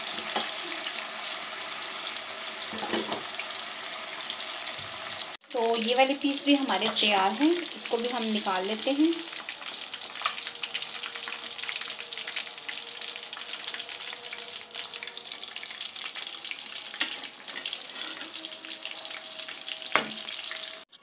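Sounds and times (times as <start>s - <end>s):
fish frying sizzle: 0.0s - 21.0s.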